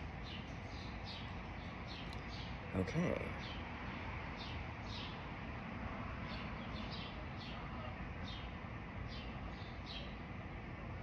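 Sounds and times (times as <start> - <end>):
bird chirping: 0.0 - 5.3, 6.2 - 10.3.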